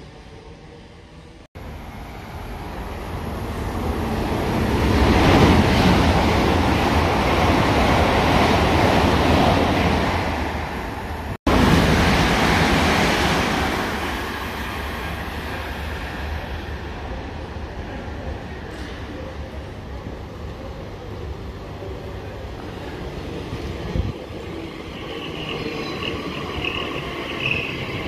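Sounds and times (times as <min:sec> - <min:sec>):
train passing at speed: 0:00.0 - 0:28.0.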